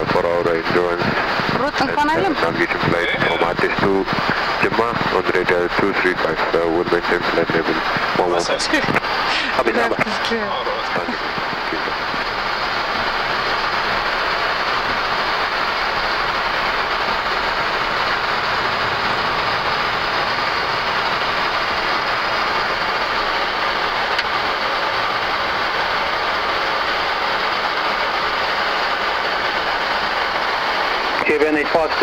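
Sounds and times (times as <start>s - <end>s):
jet engines hissing while taxiing: 0.0s - 32.0s.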